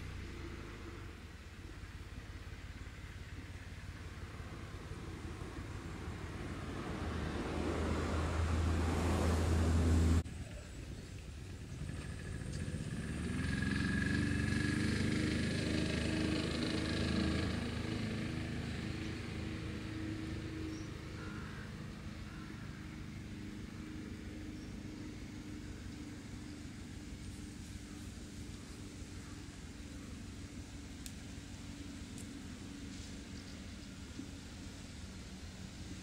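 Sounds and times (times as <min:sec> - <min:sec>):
engine hum: 0:00.0 - 0:36.0
low rumble with hiss: 0:00.0 - 0:36.0.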